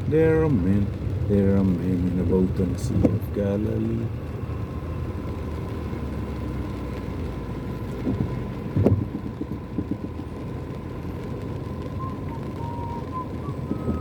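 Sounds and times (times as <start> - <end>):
car idling low rumble: 0.0 - 14.0.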